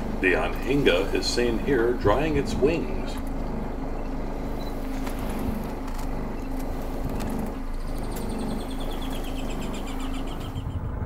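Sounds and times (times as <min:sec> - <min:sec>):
boat motor idling: 0:00.0 - 0:10.7
bird ticking trill: 0:00.0 - 0:10.8.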